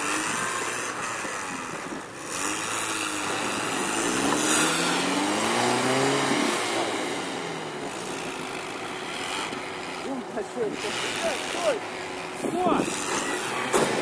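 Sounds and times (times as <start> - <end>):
car engine revving: 0.0 - 14.0
wheels spinning in snow: 0.0 - 14.0.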